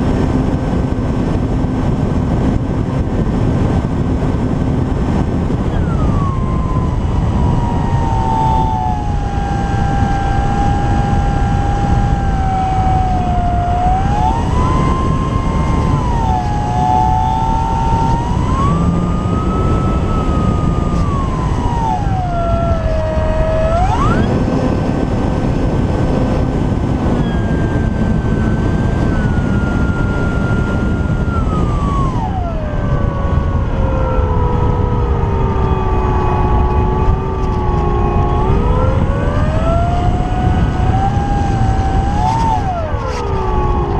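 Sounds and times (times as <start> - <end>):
model plane motor whine: 0.0 - 43.9
wind rumble on microphone: 0.0 - 43.9.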